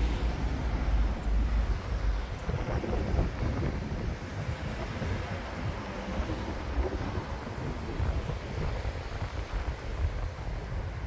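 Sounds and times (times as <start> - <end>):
cars passing on wet road: 0.0 - 11.0
wind buffeting microphone: 0.0 - 11.0.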